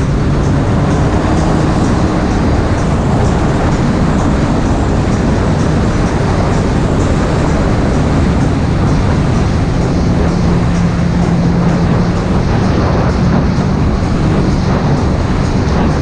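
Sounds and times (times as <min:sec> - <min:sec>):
jet ski engine droning: 0:00.0 - 0:16.0
rushing water wash: 0:00.0 - 0:16.0.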